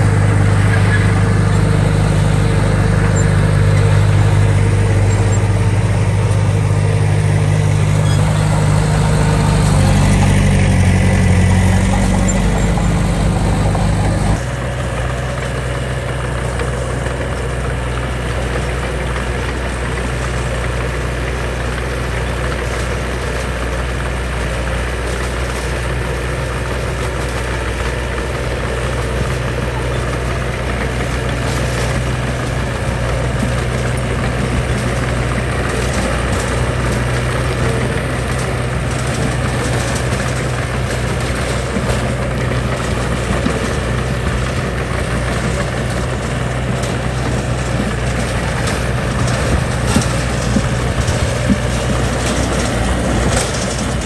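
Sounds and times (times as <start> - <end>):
construction machine diesel engine: 0.0 - 54.0.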